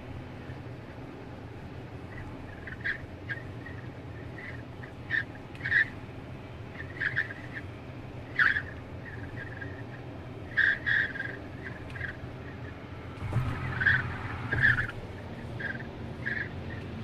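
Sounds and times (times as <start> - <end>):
road and cabin rumble: 0.0 - 17.0
wind whistling at car window: 0.0 - 17.0.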